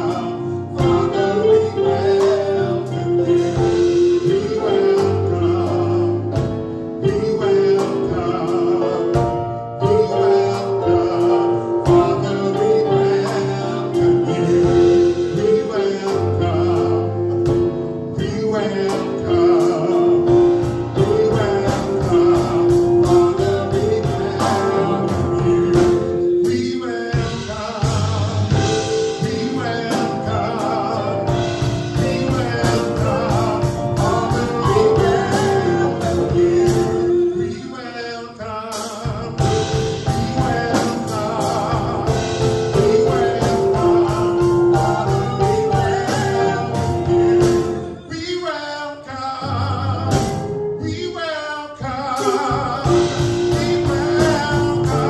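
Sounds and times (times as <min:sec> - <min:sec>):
gospel band with singers: 0:00.0 - 0:55.0.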